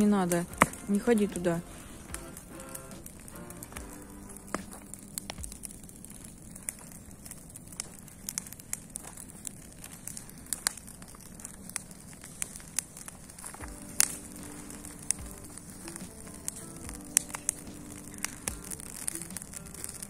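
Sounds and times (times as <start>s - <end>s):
bonfire crackling and popping: 0.0s - 20.0s.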